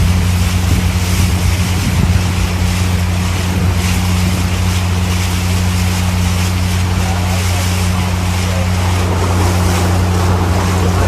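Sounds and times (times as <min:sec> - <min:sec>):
motorboat engine running: 0:00.0 - 0:11.0
wind on microphone: 0:00.0 - 0:11.0.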